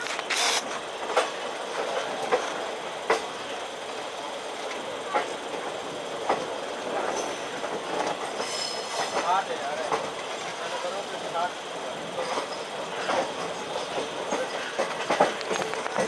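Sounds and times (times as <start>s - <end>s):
train rumbling past: 0.0s - 16.0s
train wheel clacks: 0.0s - 16.0s.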